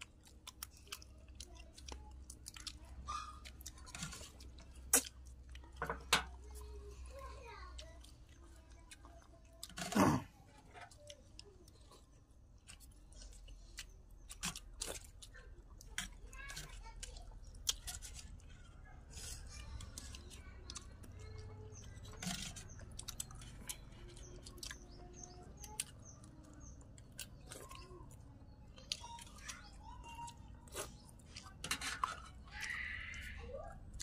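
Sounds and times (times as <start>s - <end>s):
people chewing: 0.0s - 34.0s.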